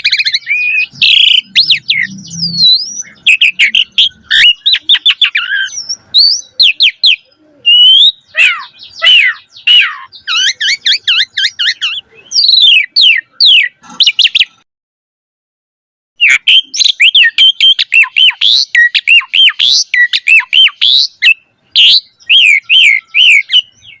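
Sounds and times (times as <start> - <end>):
starling singing whistles and chirps: 0.0 - 14.6, 16.2 - 24.0.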